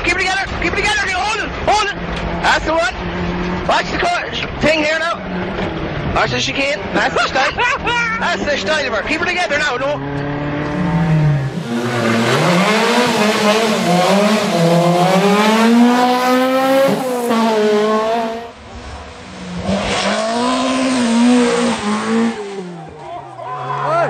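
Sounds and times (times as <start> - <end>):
rally car engines at full throttle: 0.0 - 24.0.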